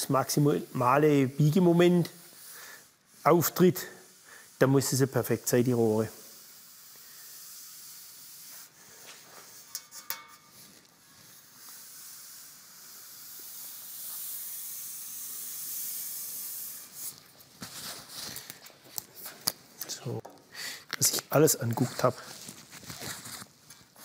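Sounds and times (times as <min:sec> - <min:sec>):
hand rubbing along metal tube: 0:00.0 - 0:19.6, 0:21.1 - 0:24.0.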